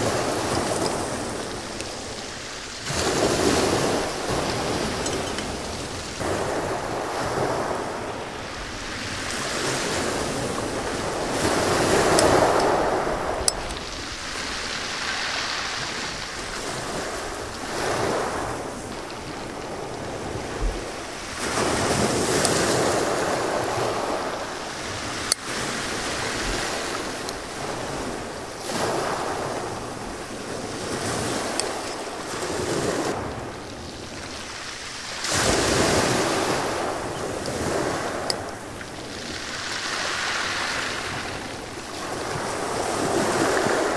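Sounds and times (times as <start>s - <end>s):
waves breaking on pebble beach: 0.0s - 43.9s
wind on microphone: 0.0s - 43.9s.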